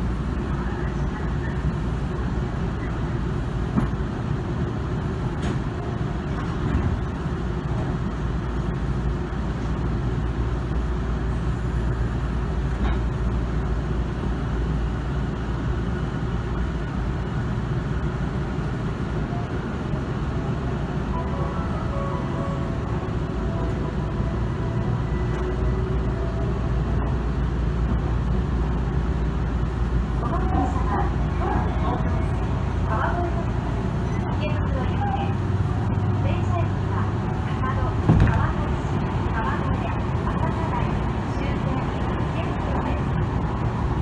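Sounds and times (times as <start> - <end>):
train low rumble: 0.0 - 44.0.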